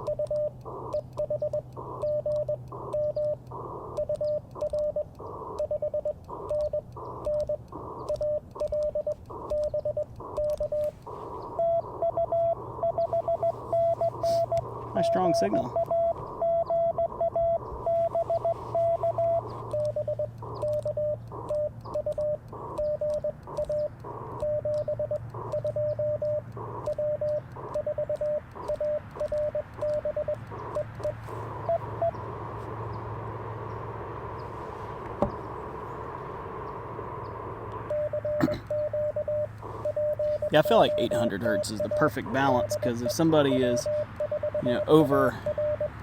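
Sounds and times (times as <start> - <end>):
morse code tones: 0.0 - 46.0
receiver hiss: 0.0 - 46.0.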